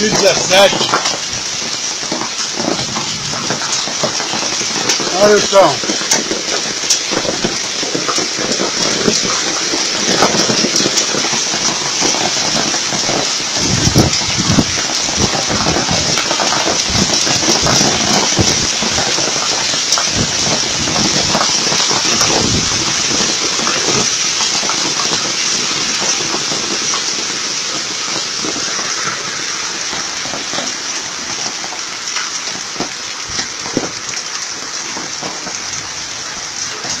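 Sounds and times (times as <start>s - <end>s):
hail and heavy rain pelting pavement: 0.0s - 37.0s.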